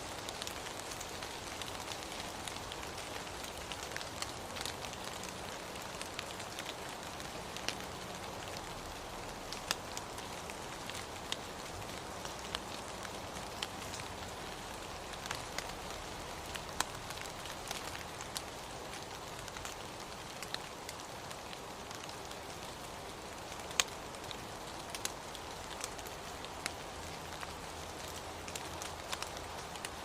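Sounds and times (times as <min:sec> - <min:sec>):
raindrops ticking on surfaces: 0:00.0 - 0:30.0
steady rain: 0:00.0 - 0:30.0.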